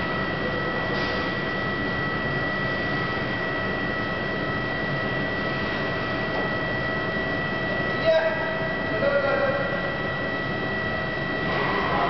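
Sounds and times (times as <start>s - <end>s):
constant high whine: 0.0s - 12.0s
mechanical hum and hiss: 0.0s - 12.0s.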